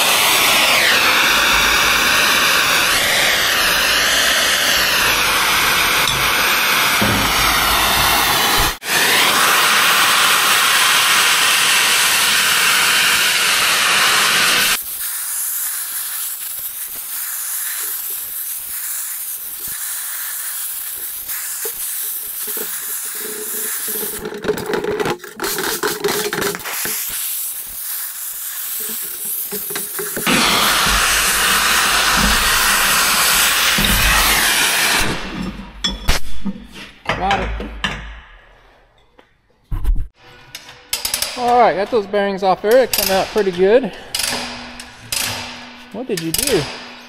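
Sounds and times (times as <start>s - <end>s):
gas cutting torch hissing: 0.0s - 24.4s, 25.4s - 35.4s, 41.4s - 44.9s.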